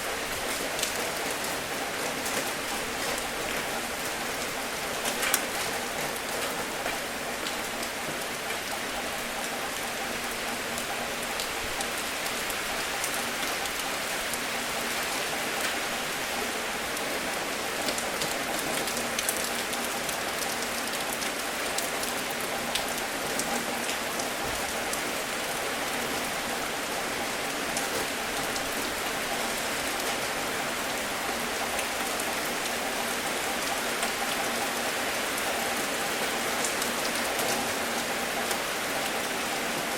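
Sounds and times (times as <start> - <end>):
steady rain hiss: 0.0 - 39.9
raindrops ticking on a surface: 0.1 - 39.9.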